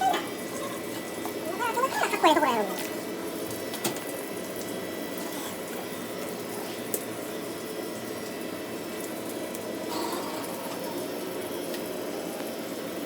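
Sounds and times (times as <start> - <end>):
running water: 0.0 - 12.5.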